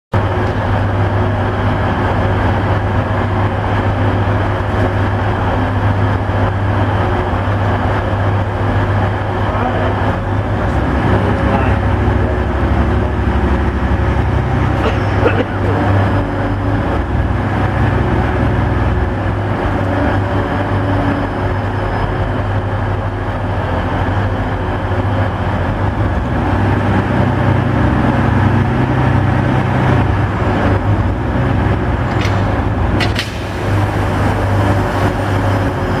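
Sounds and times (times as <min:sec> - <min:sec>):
diesel engines droning: 0:00.2 - 0:36.0.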